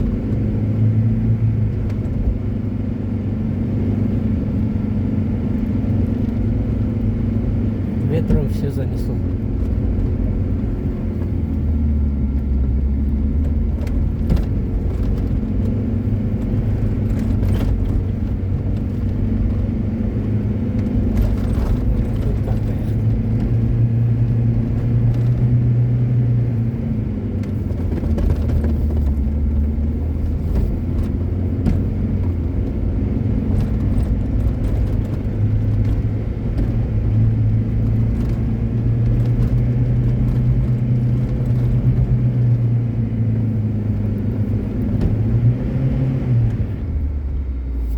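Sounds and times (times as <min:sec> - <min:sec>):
car engine running under load: 0:00.0 - 0:47.9.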